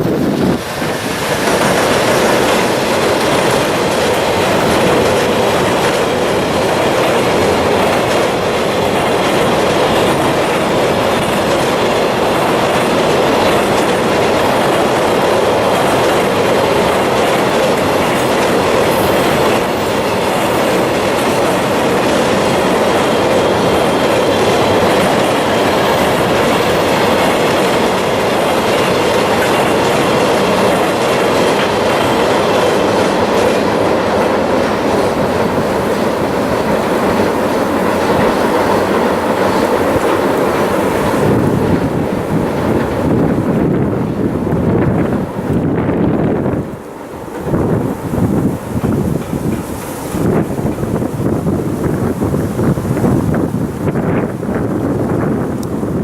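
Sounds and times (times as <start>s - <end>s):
rail-joint clatter: 0.0s - 56.0s
train wheels rumbling over bridge: 0.0s - 56.0s.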